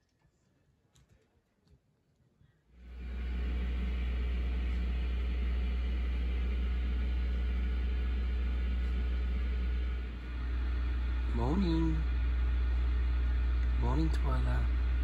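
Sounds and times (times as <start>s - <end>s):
steady low rumble with hiss: 2.8s - 15.0s.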